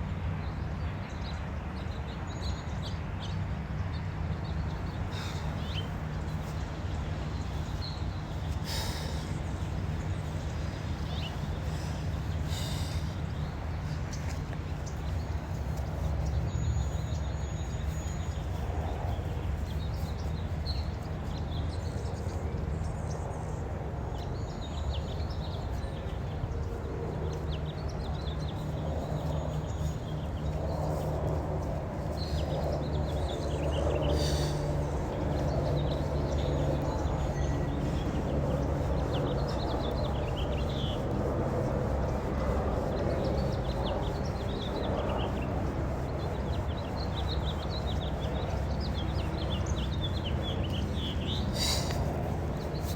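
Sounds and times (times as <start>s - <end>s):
birds chirping: 4.3s - 52.9s.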